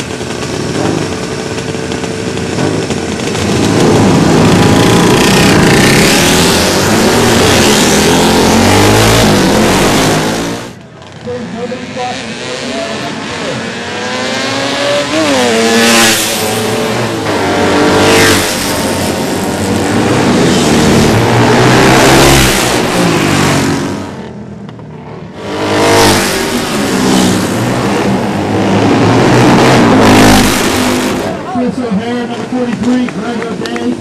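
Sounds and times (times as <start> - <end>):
racing motorcycles revving past: 0.0 - 34.0.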